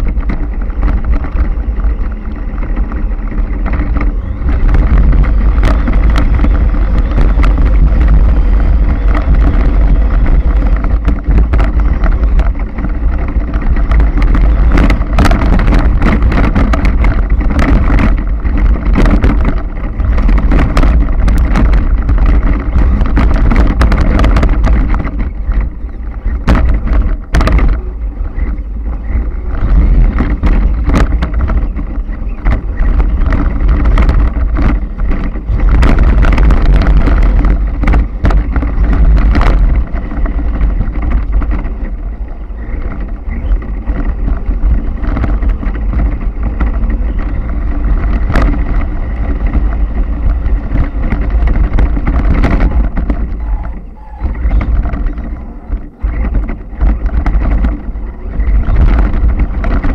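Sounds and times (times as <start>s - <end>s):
chassis knocking and rattling: 0.0s - 59.9s
toy truck motor rumbling: 0.0s - 59.9s.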